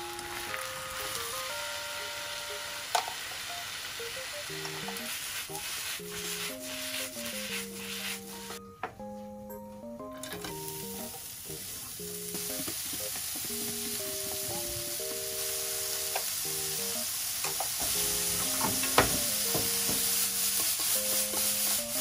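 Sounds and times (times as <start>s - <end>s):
food sizzling in frying pan: 0.0s - 8.6s, 10.2s - 22.0s
light background music: 0.0s - 22.0s.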